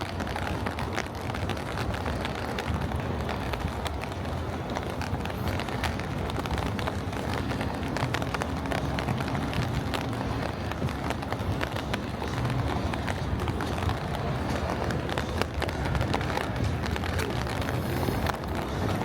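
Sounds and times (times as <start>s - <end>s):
footsteps on paved path: 0.0s - 19.0s
low outdoor rumble: 0.0s - 19.0s.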